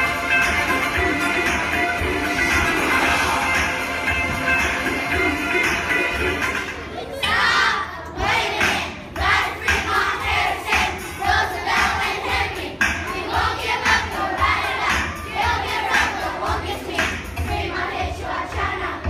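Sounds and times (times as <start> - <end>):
music with steady beat: 0.0 - 6.9, 8.2 - 19.0
children singing and shouting: 0.0 - 19.0.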